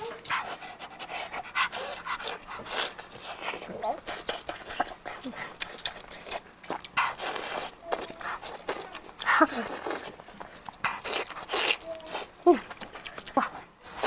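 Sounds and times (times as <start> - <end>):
close-miked eating and chewing: 0.0 - 14.0.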